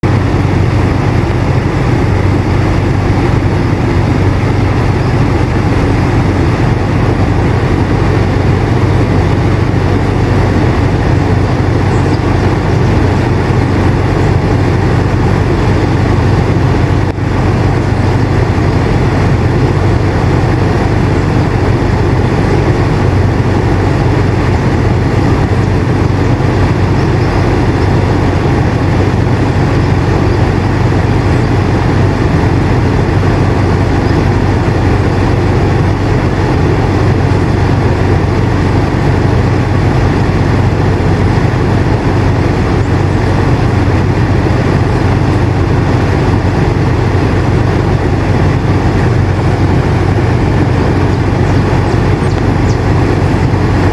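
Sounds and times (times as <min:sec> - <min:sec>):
air conditioner humming: 0:00.0 - 0:53.9.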